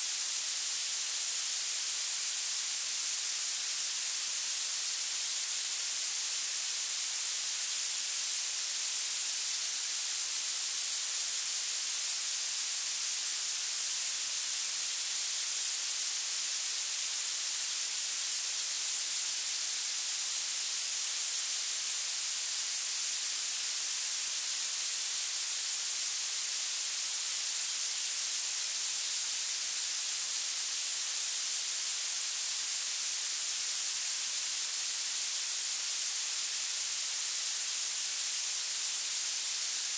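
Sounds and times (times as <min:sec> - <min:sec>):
violet noise hiss: 0:00.0 - 0:39.9.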